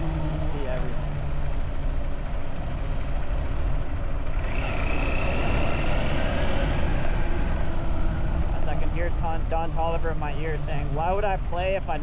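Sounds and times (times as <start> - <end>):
motorbike engine: 0.0 - 11.6
wind and road noise rumble: 0.0 - 12.0.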